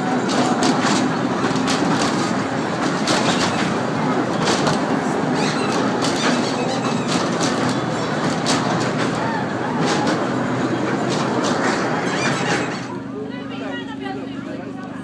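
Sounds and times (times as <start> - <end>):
children's train ride clattering: 0.0 - 15.0.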